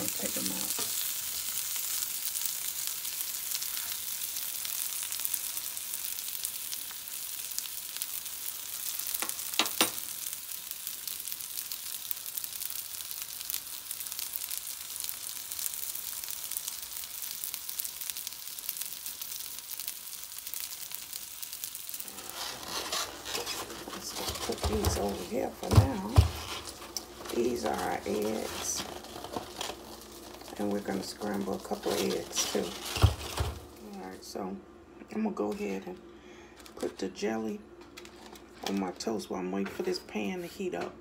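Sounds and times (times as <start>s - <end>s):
sausages sizzling in frying pan: 0.0s - 34.5s.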